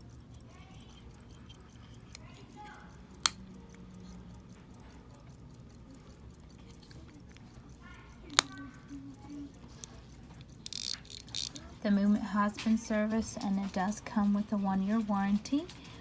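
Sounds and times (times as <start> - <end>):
pocket watch ticking: 0.0 - 16.0
watch click: 0.0 - 16.0.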